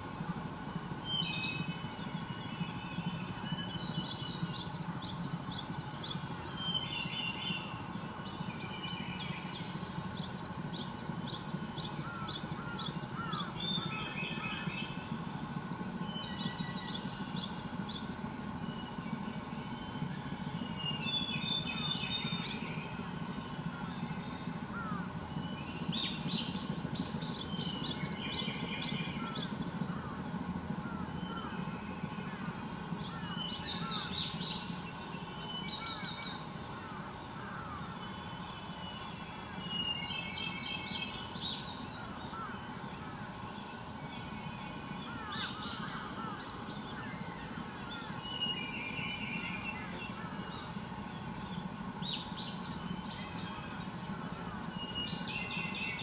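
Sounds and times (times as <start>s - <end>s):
songbirds singing: 0.0s - 56.0s
steady low hum: 0.0s - 56.0s.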